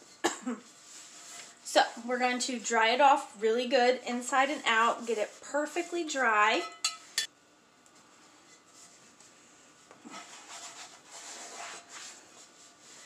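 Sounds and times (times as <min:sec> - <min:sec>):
towel rubbing on skillet: 0:00.6 - 0:06.4, 0:08.1 - 0:13.0.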